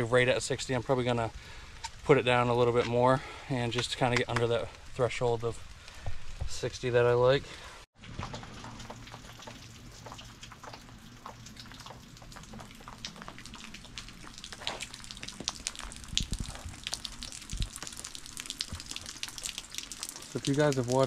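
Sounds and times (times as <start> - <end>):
rain drops tapping on leaves: 0.0 - 21.0.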